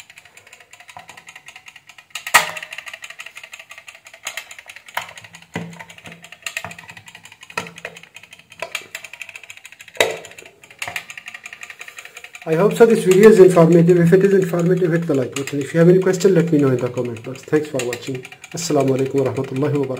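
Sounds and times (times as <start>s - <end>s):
pendulum escapement ticking: 0.0s - 19.9s
timer clacking: 0.0s - 19.9s.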